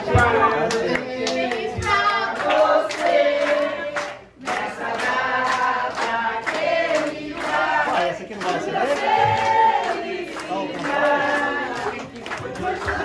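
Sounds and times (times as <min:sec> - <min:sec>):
group singing in chorus: 0:00.0 - 0:13.0
hands clapping: 0:00.1 - 0:13.0.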